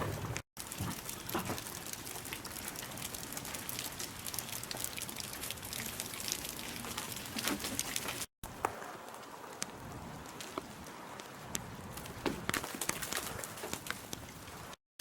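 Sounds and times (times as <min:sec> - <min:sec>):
rain drops ticking: 0:00.6 - 0:14.8
rain falling: 0:00.6 - 0:14.8.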